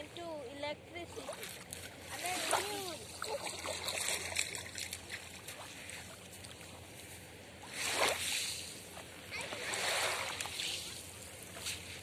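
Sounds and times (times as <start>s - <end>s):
small waves lapping on gravel: 1.0s - 12.0s.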